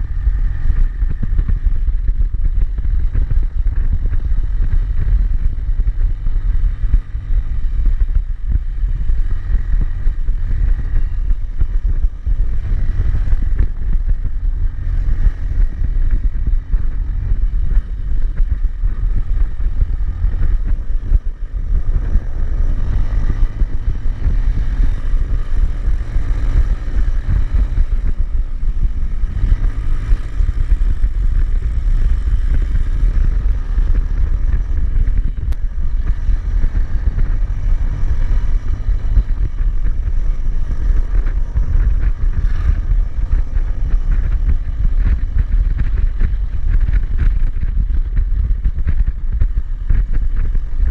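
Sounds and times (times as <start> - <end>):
motorcycle engine running: 0.0 - 50.9
wind rushing over microphone: 0.0 - 50.9.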